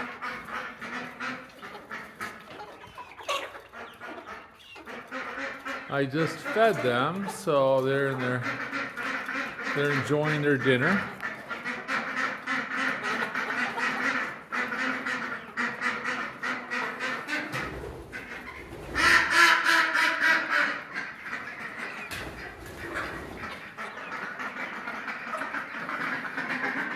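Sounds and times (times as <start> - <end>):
chickens calling: 0.0 - 26.9
chickens pecking feed: 0.0 - 26.9.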